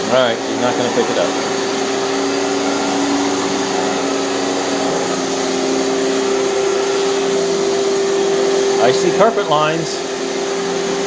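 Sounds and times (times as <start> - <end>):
vacuum cleaner running on carpet: 0.0 - 11.0.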